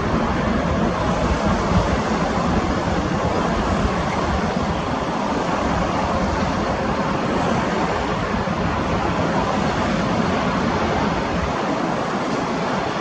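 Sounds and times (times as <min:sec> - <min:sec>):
aircraft engine noise: 0:00.0 - 0:13.0
wind buffeting microphone: 0:00.0 - 0:13.0.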